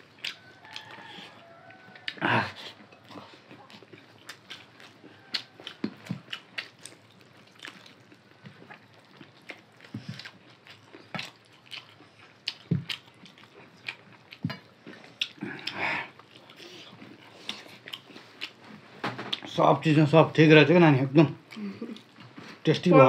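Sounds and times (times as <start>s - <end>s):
chewing and lip smacking: 0.0s - 19.6s, 21.4s - 22.6s.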